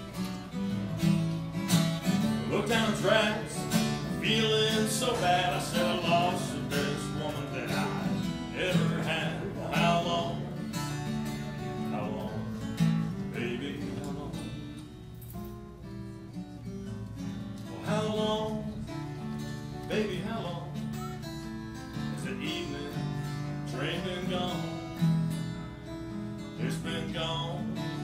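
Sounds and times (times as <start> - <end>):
acoustic guitar blues: 0.0 - 28.0.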